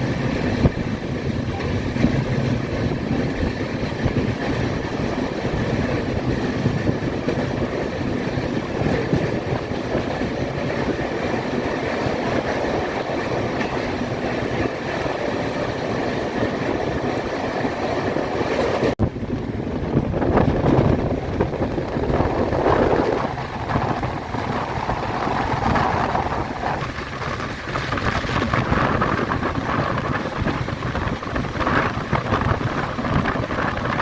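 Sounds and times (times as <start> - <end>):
train rumbling and rattling: 0.0 - 34.0.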